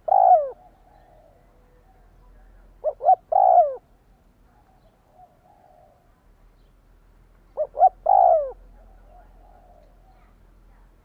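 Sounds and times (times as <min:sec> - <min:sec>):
dove cooing: 0:00.0 - 0:06.2, 0:07.5 - 0:10.4.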